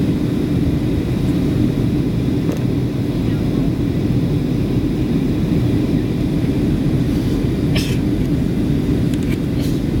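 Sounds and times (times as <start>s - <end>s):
aircraft cabin engine rumble: 0.0s - 10.0s.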